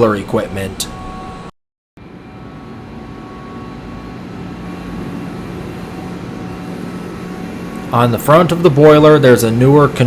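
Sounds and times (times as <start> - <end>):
boiler burners humming: 0.0 - 10.0
faint high whine: 0.0 - 10.0.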